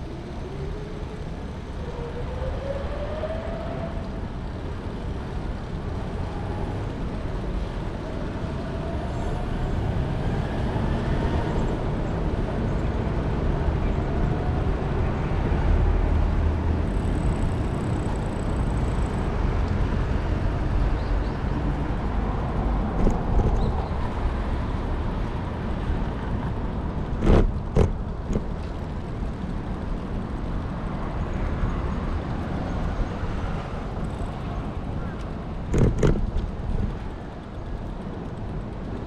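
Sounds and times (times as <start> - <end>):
low traffic rumble: 0.0 - 39.0.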